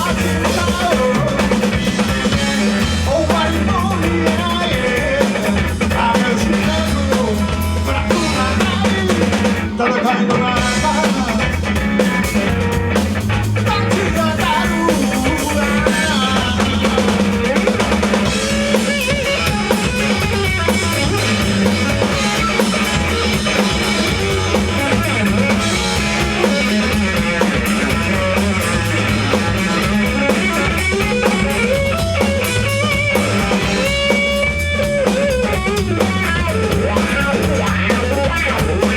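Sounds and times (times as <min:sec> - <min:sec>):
drum kit: 0:00.0 - 0:38.9
guitar: 0:00.0 - 0:38.9.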